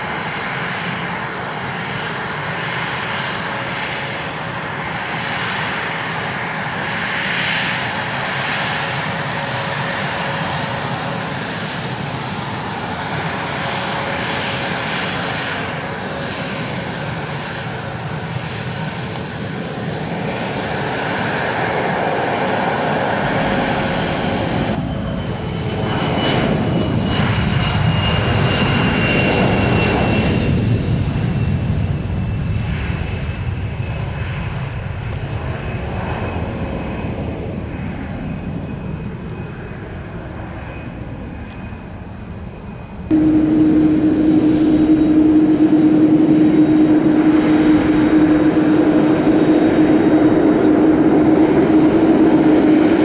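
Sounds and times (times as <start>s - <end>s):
jet engines whining: 0.0s - 53.0s
jet takeoff roar: 0.0s - 53.0s.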